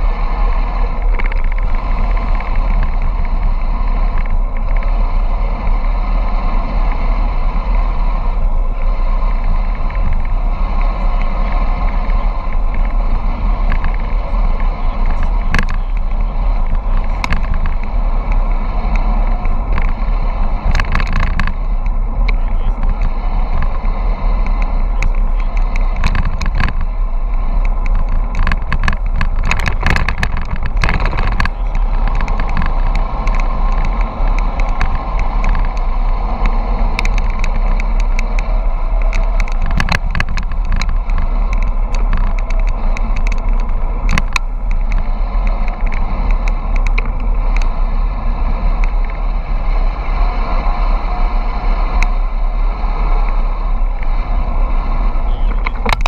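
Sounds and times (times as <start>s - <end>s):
bicycle tyres on asphalt: 0.0s - 56.0s
wind over microphone: 0.0s - 56.0s
irregular clicks and knocks: 0.8s - 5.0s, 7.7s - 56.0s.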